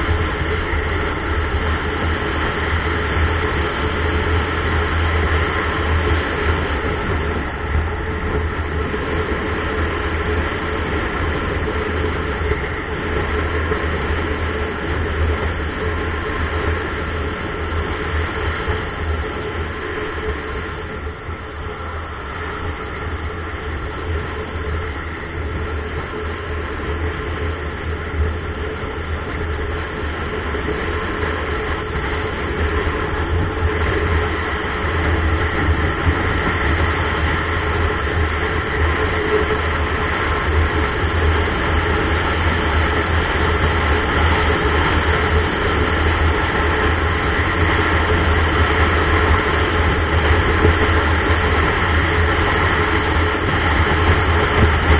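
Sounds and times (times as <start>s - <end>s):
wind noise: 0.0s - 54.9s.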